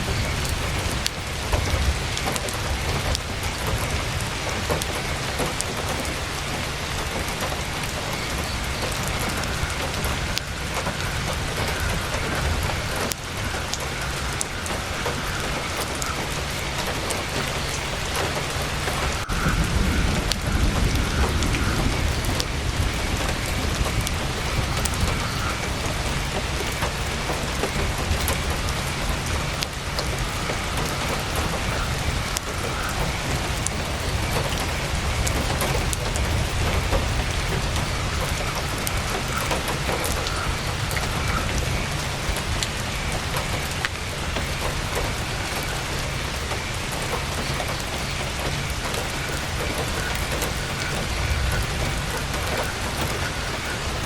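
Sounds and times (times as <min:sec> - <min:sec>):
heavy rain on tent canvas: 0:00.0 - 0:54.0.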